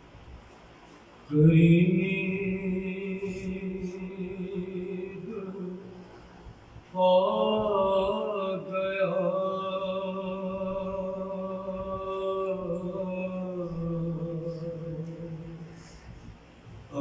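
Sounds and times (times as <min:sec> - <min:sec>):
man singing unaccompanied: 0:01.3 - 0:16.0.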